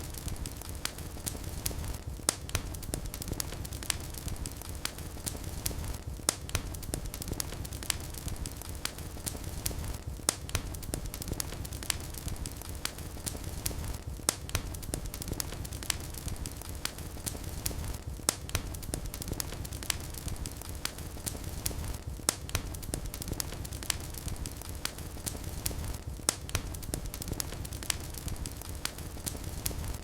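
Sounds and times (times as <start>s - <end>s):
fire crackling and popping: 0.0s - 30.0s
wood fire burning: 0.0s - 30.0s.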